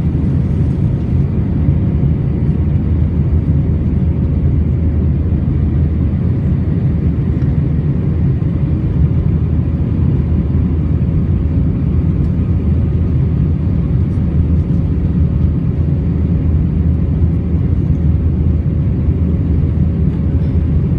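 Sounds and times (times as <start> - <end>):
jet engine cabin rumble: 0.0 - 20.9
steady hum: 0.0 - 20.9.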